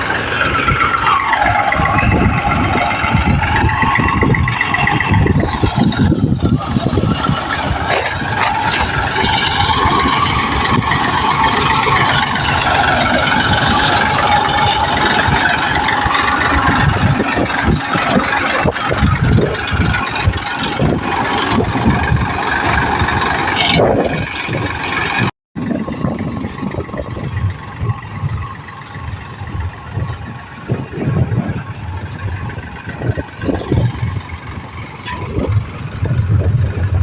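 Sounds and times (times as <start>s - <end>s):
threshing machine rattle and whirr: 0.0s - 37.0s
tractor engine running: 0.0s - 37.0s.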